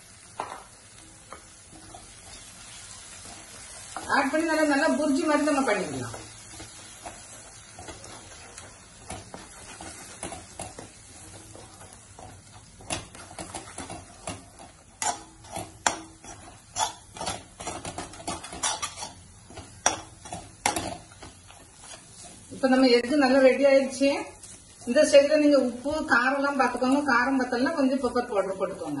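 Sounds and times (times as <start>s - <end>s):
spatula scraping frying pan: 0.9s - 29.0s.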